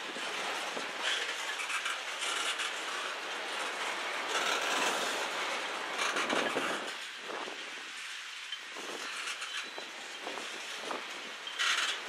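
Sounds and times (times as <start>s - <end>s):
steel wheels on rail: 0.0s - 12.0s
wheel clatter: 0.0s - 12.0s.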